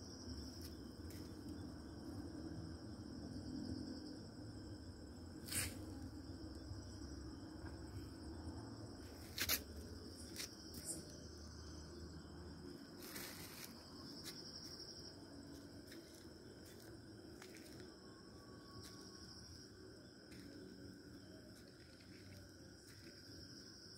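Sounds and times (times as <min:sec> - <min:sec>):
night insects chirring: 0:00.0 - 0:23.9.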